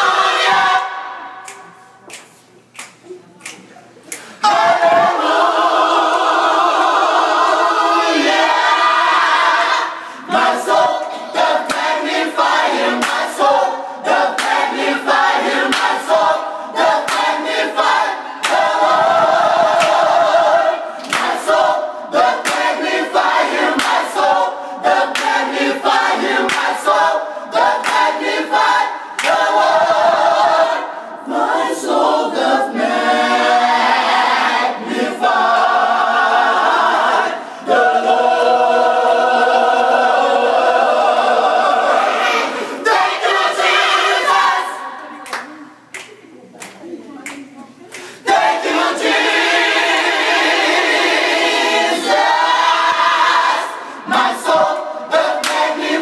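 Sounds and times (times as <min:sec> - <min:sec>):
gospel choir singing a cappella: 0:00.0 - 0:02.0, 0:04.2 - 0:45.8, 0:47.9 - 0:56.0.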